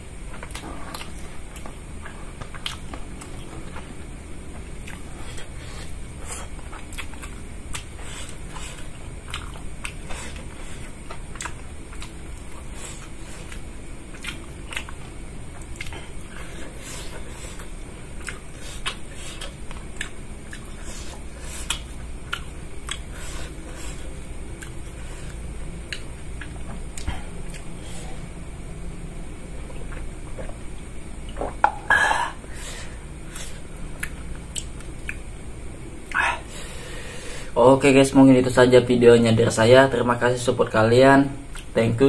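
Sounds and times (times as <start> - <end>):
low background hum: 0.0 - 42.0
person chewing food: 0.2 - 28.4, 29.5 - 35.3, 41.5 - 41.8.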